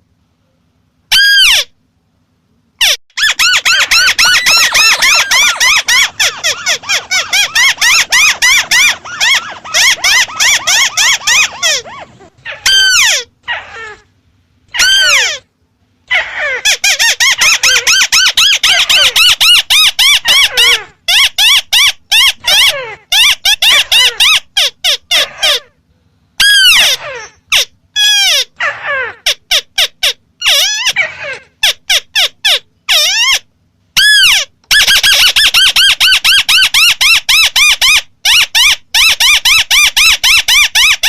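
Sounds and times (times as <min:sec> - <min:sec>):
bird chattering squeaky calls: 0:02.8 - 0:14.0, 0:14.8 - 0:15.4, 0:16.1 - 0:25.7, 0:26.4 - 0:41.0.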